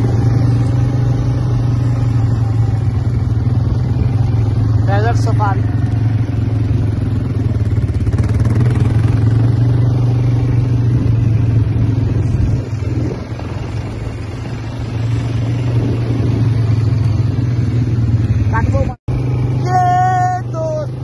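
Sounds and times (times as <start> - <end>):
quad bike engine drone: 0.0 - 21.0.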